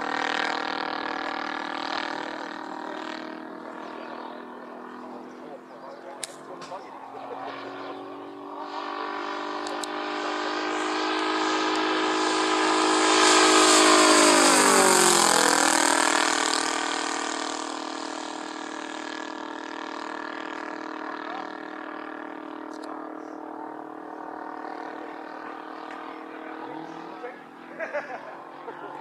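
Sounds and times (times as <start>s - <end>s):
model plane engine flypast: 0.0s - 29.0s.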